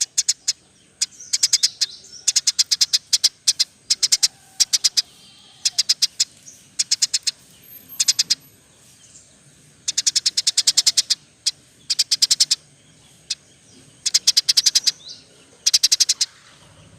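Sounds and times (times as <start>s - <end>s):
bird chirping: 0.0s - 16.9s.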